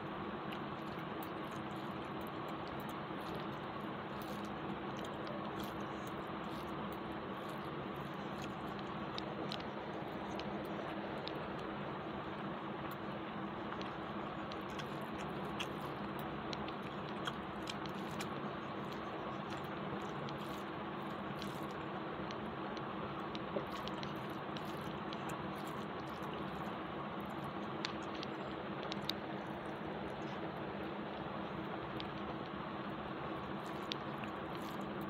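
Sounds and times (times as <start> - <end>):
fingers mixing rice squishy clicks: 0.0 - 35.0
person chewing: 0.4 - 30.5, 33.4 - 35.0.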